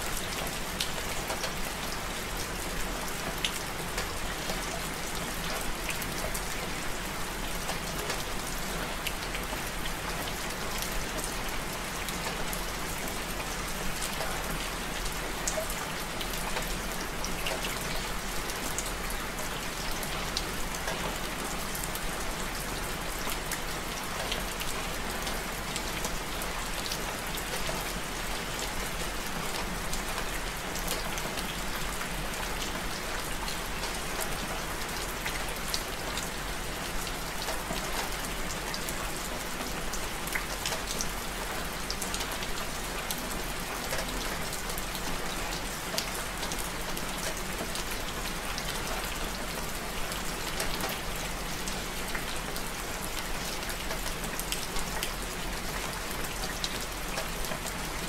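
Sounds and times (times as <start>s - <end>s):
steady rain falling: 0.0s - 58.0s
raindrops ticking close by: 0.1s - 58.0s.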